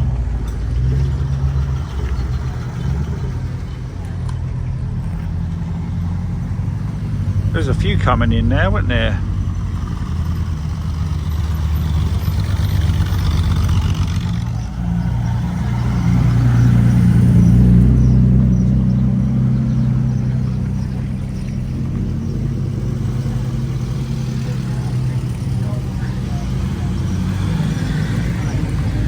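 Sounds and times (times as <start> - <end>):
car engines at low speed: 0.0 - 29.0.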